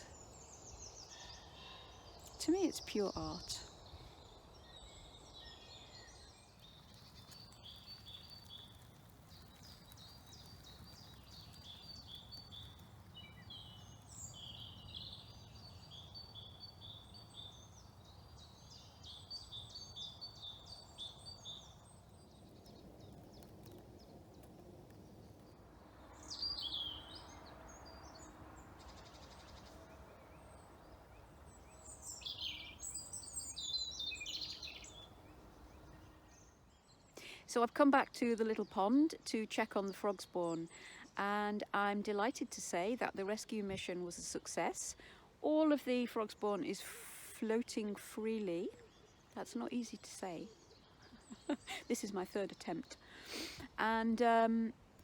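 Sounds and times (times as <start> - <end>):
woodland birds chirping: 0.0 - 37.2, 47.4 - 55.0.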